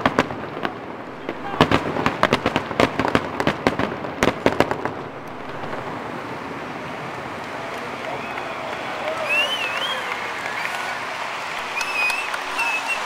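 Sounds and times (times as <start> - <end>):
background noise: 0.0 - 13.0
fireworks bangs and cracks: 0.0 - 13.0.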